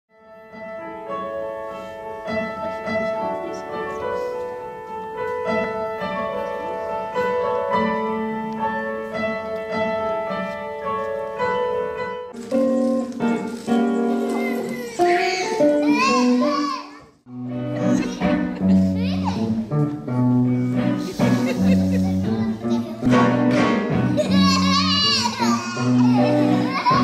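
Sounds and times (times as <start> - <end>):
piano melody: 0.1 - 27.0.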